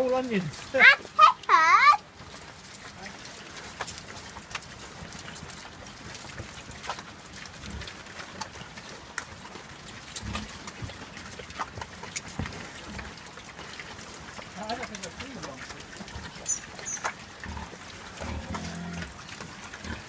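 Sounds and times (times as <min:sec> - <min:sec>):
piglets crunching and chomping: 0:00.0 - 0:20.0
piglets snuffling: 0:00.0 - 0:20.0.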